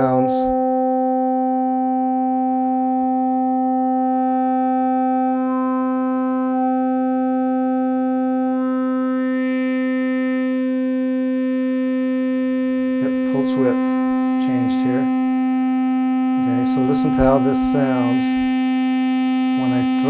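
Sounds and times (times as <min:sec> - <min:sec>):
synthesizer steady tone: 0:00.0 - 0:20.0.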